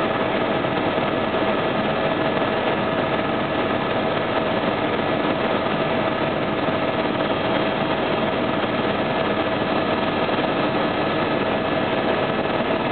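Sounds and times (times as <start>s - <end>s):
helicopter engine and rotors: 0.0s - 12.9s
steady whine: 0.0s - 12.9s.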